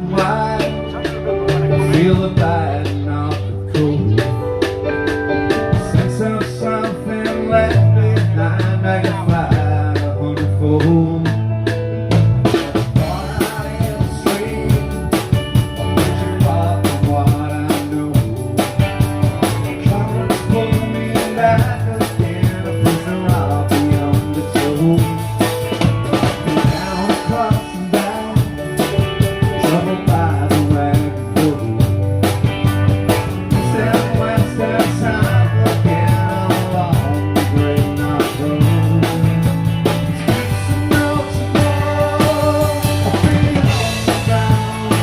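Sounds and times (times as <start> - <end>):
drum kit: 0.0 - 45.0
electric bass guitar: 0.0 - 45.0
live rock band playing: 0.0 - 45.0.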